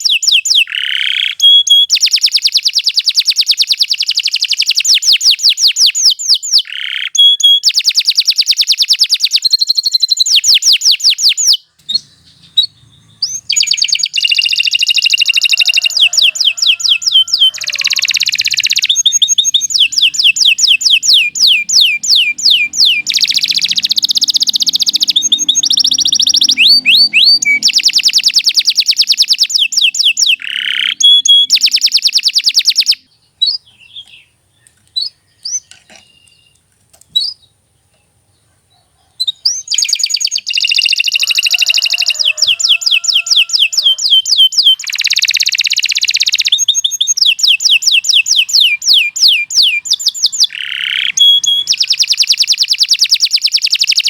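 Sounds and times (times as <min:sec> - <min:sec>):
canary singing trills: 0:00.0 - 0:37.6, 0:38.3 - 0:54.0
bird chirps: 0:00.0 - 0:54.0.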